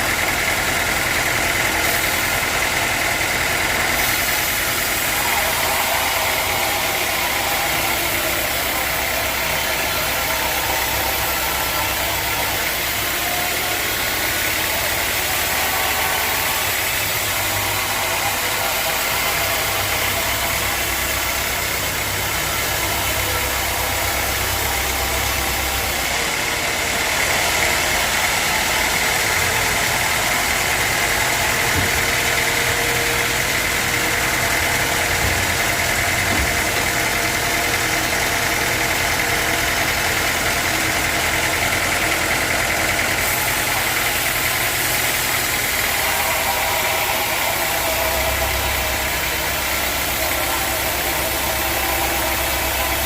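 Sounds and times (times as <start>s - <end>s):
sawmill machinery running: 0.0s - 53.0s.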